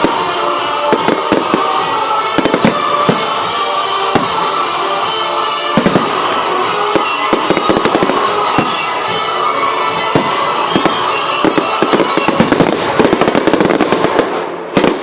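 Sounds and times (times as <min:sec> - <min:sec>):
fireworks bursting and crackling: 0:00.0 - 0:15.0
loud show music: 0:00.0 - 0:15.0.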